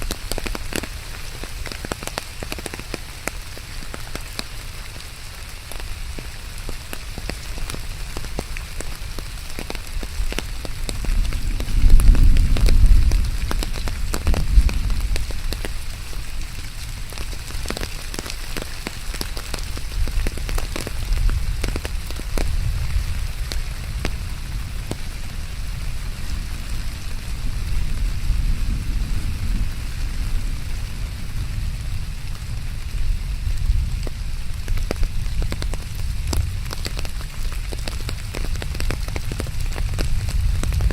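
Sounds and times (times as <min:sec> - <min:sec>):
rain drops ticking: 0:00.0 - 0:40.9.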